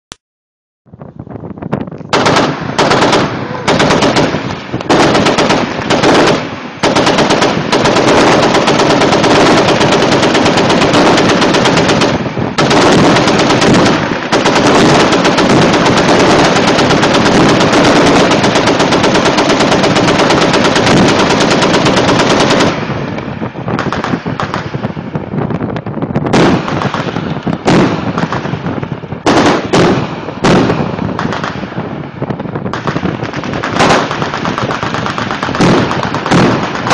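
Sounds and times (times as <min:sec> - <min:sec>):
automatic weapons firing: 0:02.1 - 0:24.9, 0:26.3 - 0:31.9, 0:32.6 - 0:36.9.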